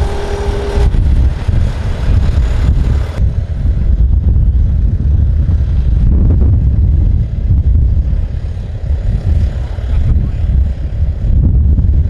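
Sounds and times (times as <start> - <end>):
jet engine rumble: 0.0 - 12.0.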